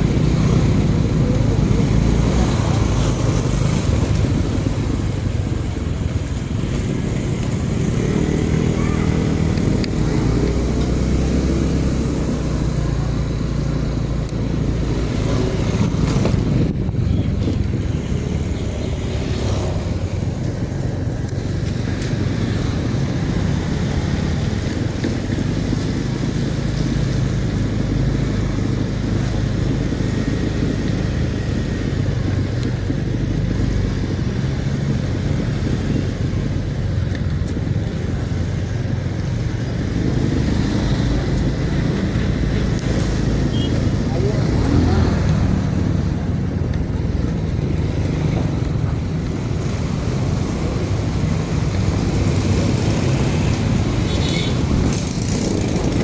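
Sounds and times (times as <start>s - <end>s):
motorcycle engines rumbling: 0.0s - 56.0s
road noise: 0.0s - 56.0s.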